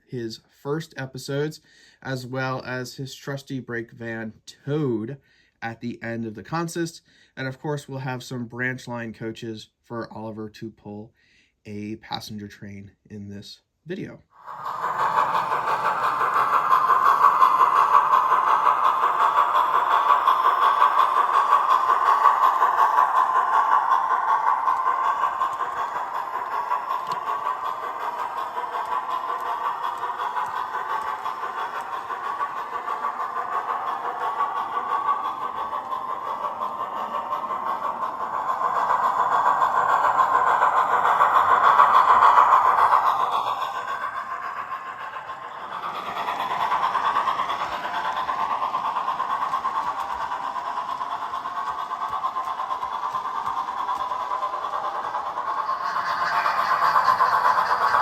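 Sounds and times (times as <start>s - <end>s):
model locomotive running: 0.0s - 11.0s, 13.9s - 58.0s.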